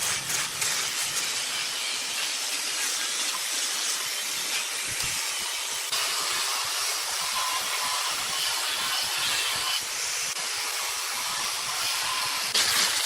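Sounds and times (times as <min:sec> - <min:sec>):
wood hissing on a lathe: 0:00.0 - 0:13.0.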